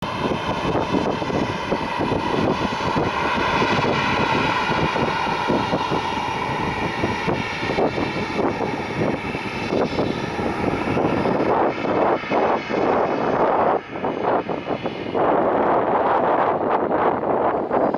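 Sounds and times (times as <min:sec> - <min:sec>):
jet engines running: 0:00.0 - 0:17.9
wind buffeting microphone: 0:00.0 - 0:17.9.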